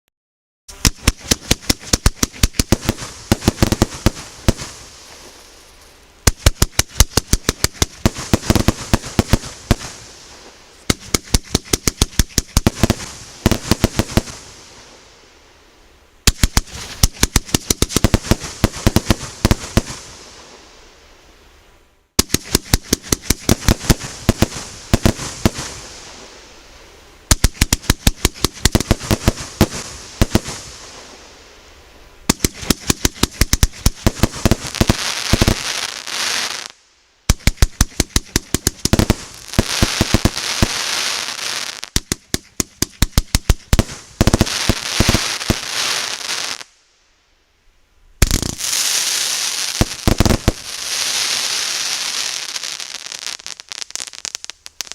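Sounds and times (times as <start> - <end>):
firework shots with crackle: 0.7 - 15.0, 16.2 - 20.6, 22.2 - 26.4, 27.2 - 31.5, 32.2 - 46.8, 48.2 - 54.9.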